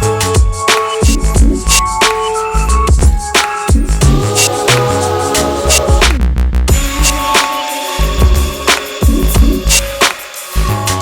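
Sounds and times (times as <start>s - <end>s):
hip-hop beat with bass and synth: 0.0s - 11.0s.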